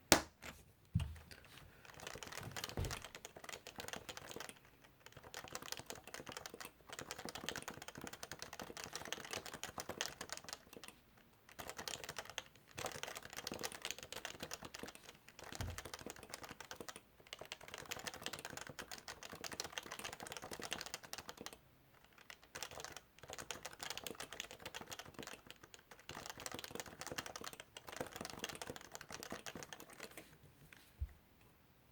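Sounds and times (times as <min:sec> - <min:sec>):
fast typing on keyboard: 0:01.8 - 0:30.3.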